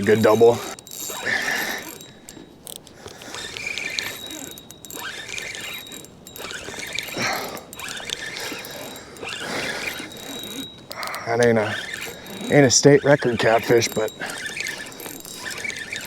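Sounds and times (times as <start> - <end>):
fishing reel clicker ticking: 0.0 - 16.0.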